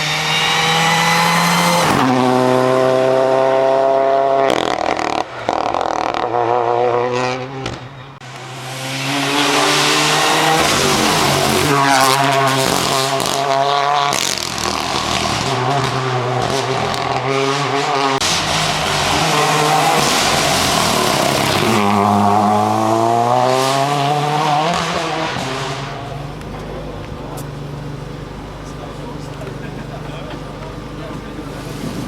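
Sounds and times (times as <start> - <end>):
rally car engine at full throttle: 0.0 - 32.0.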